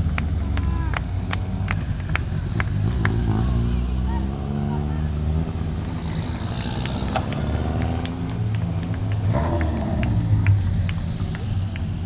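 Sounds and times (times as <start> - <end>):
car engines running at low revs: 0.0 - 12.0.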